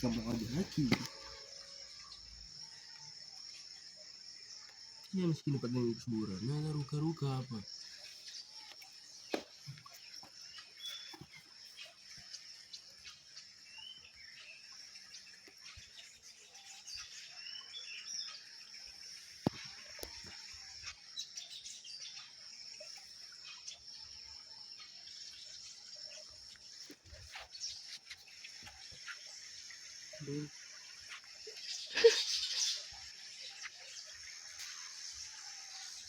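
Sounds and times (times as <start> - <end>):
birds chirping: 0.0 - 36.0
insect drone: 0.0 - 36.0.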